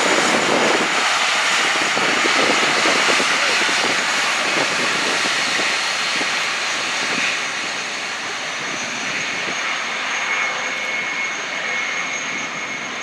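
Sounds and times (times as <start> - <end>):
jet airliner rushing noise: 0.0 - 13.0.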